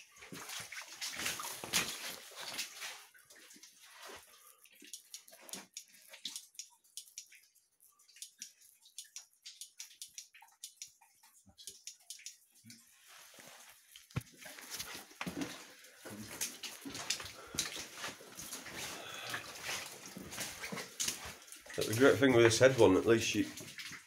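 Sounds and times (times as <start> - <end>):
water drips and splashes: 0.0 - 24.0.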